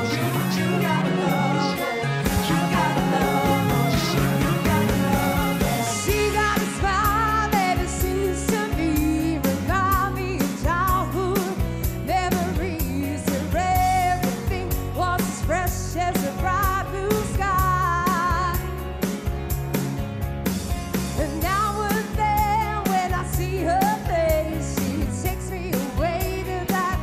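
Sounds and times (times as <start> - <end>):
woman singing into microphone: 0.0 - 18.7, 21.2 - 27.0
pop band with drum beat: 0.0 - 27.0.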